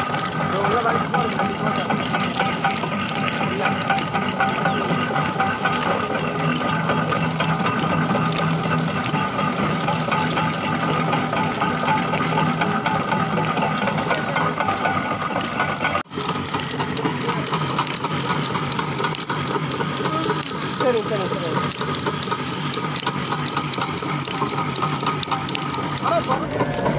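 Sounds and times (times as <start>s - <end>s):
sugarcane crushing mill running: 0.0s - 26.9s.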